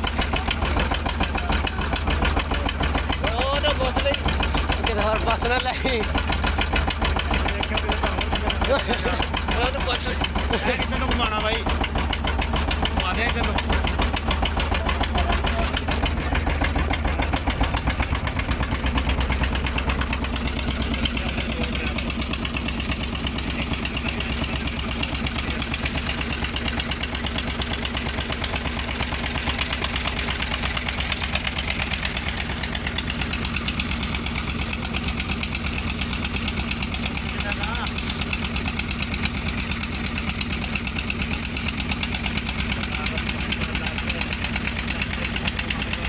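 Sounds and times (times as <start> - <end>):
large engine running: 0.0 - 46.0.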